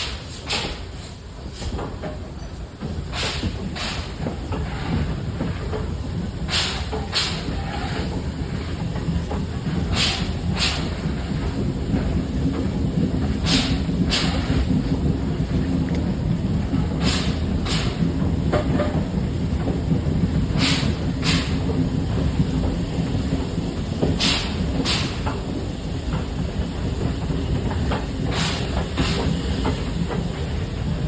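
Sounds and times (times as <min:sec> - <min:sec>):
railway carriage rumble: 0:00.0 - 0:31.0
wheels clicking over rail joints: 0:01.6 - 0:31.0.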